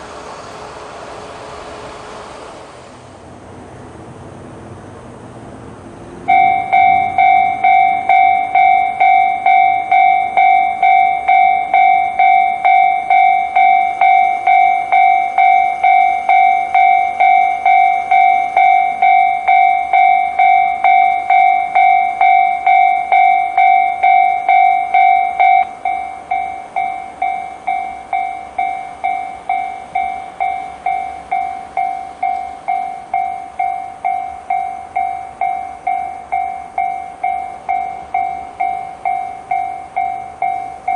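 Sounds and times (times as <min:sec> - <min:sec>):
level-crossing bell dinging: 0:06.3 - 0:40.9.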